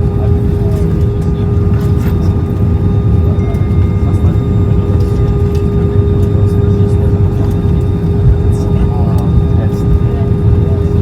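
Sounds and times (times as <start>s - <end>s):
airplane cabin rumble: 0.0s - 11.0s
constant hum: 0.0s - 11.0s.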